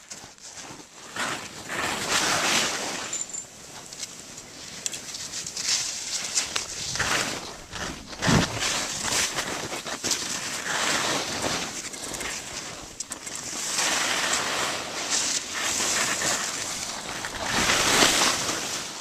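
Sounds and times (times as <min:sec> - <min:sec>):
skis hissing through snow: 0:00.0 - 0:03.2, 0:05.1 - 0:19.0.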